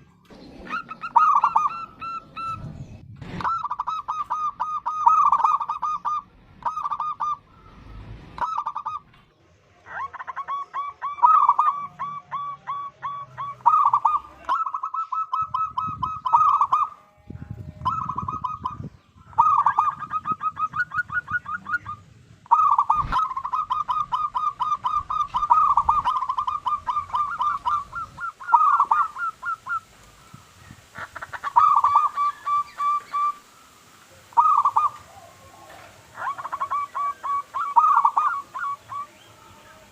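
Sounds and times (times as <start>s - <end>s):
dove cooing: 0.0s - 9.1s, 9.8s - 33.5s, 34.1s - 39.3s.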